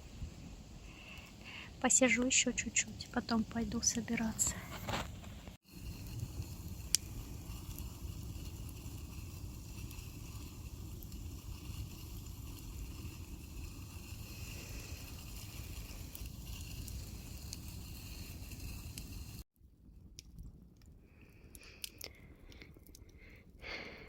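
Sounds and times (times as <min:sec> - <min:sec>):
fire crackling and snapping: 0:00.0 - 0:02.8, 0:03.5 - 0:23.8
campfire rumble: 0:00.0 - 0:19.5, 0:20.2 - 0:24.0.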